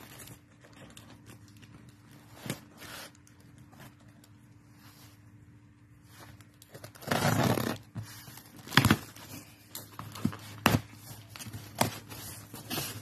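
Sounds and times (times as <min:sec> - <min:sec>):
cardboard rustling: 0:00.0 - 0:13.0.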